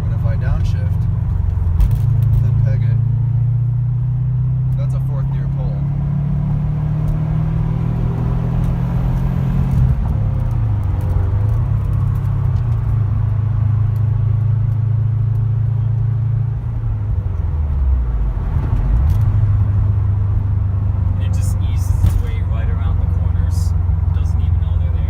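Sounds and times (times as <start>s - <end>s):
car engine running: 0.0s - 25.0s
road noise: 0.0s - 25.0s.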